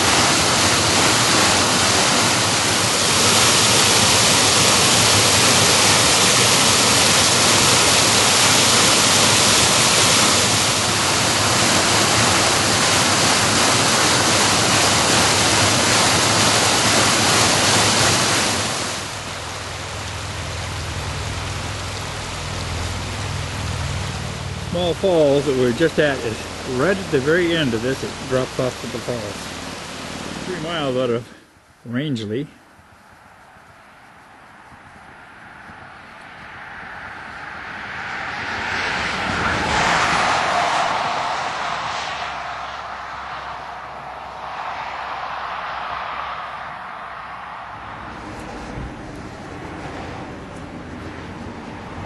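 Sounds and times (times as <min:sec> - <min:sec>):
waterfall rushing: 0:00.0 - 0:31.2, 0:40.0 - 0:51.0
shallow stream running: 0:00.0 - 0:52.0.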